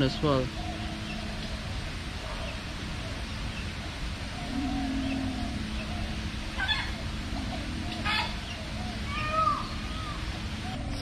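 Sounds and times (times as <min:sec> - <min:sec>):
bird calls: 0:00.0 - 0:11.0
low steady rumble: 0:00.0 - 0:11.0.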